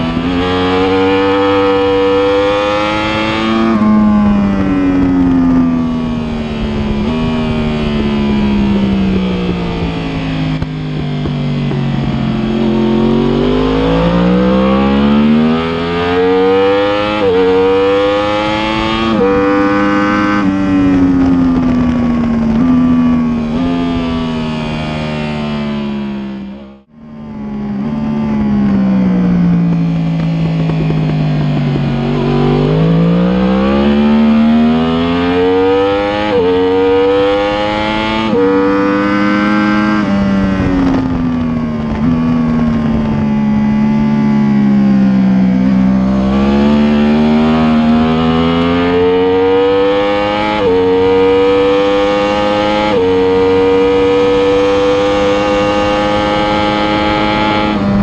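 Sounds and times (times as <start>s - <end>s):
motorcycle engine upshifting: 0.0s - 58.0s.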